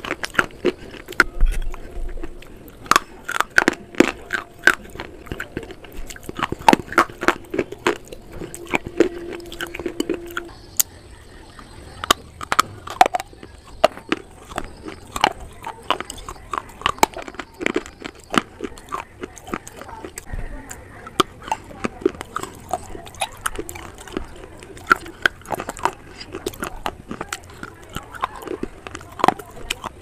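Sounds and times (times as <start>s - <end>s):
wet mouth sounds: 0.0s - 10.9s, 11.5s - 30.0s
crunching and chewing slate: 0.0s - 30.0s
faint steady hum: 0.0s - 30.0s.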